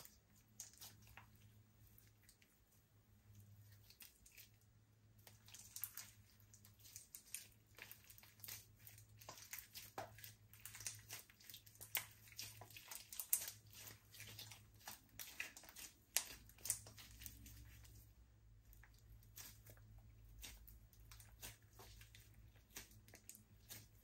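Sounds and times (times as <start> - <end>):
slime squished by hand: 3.6 - 24.0.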